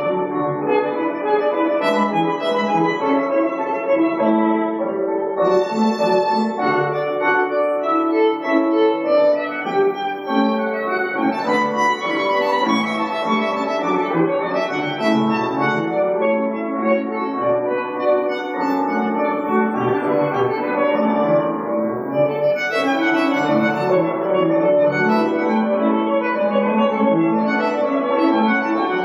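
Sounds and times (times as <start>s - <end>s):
bowed violin: 0.0s - 29.0s
lower accompaniment: 0.0s - 29.0s.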